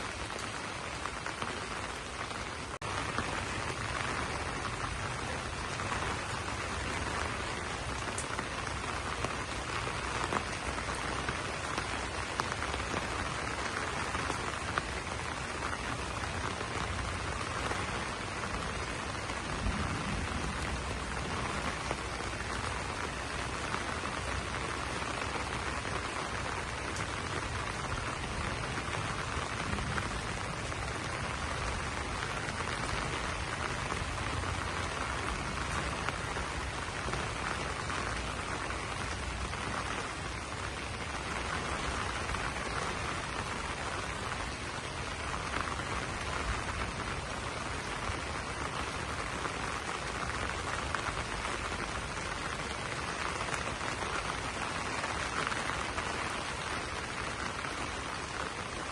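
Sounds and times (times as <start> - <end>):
rain pattering on leaves: 0.0 - 58.9.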